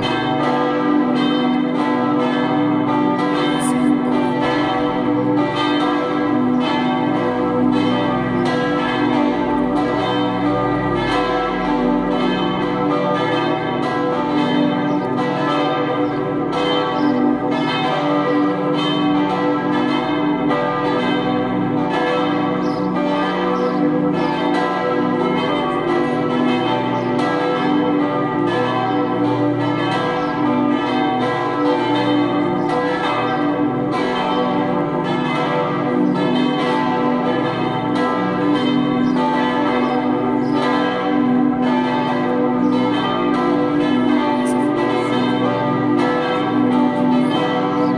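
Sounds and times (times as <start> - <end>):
church bells ringing in peal: 0.0 - 47.9.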